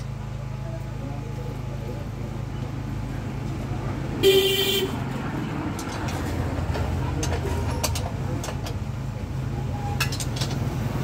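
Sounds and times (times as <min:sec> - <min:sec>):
low hum of vehicle engines: 0:00.0 - 0:11.0.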